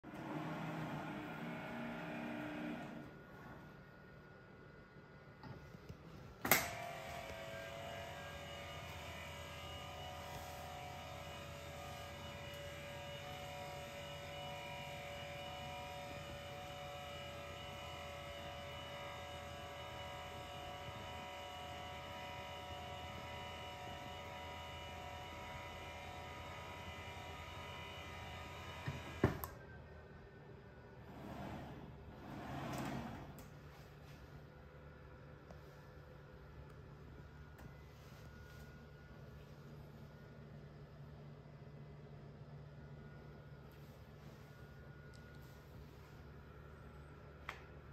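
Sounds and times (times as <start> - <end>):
electric whir with held tones: 0.0 - 47.9.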